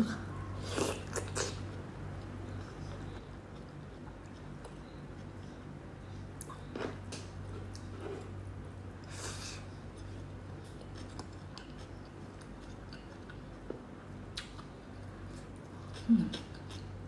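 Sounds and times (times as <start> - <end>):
steady low hum: 0.0 - 17.0
person chewing food: 0.6 - 8.4, 9.0 - 17.0.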